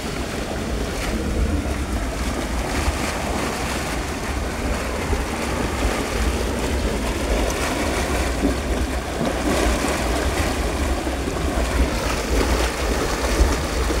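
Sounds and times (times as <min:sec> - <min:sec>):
water gushing and splashing: 0:00.0 - 0:14.0
wind rumbling on microphone: 0:00.0 - 0:14.0.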